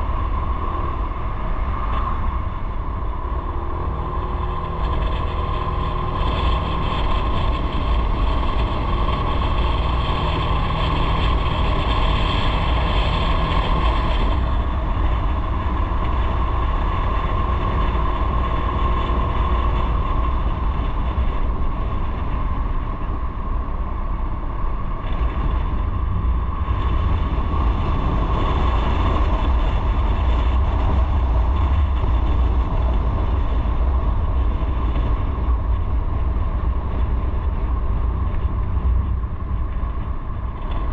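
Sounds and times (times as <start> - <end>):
motorcycle engine drone: 0.0 - 40.9
wind rush on microphone: 0.0 - 40.9.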